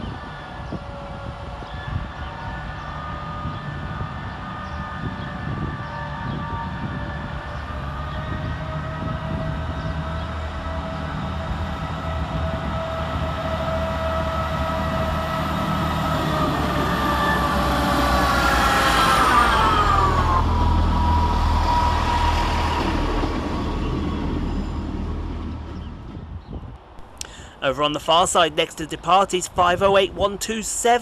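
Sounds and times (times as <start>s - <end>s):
diesel train passing: 0.0s - 31.0s.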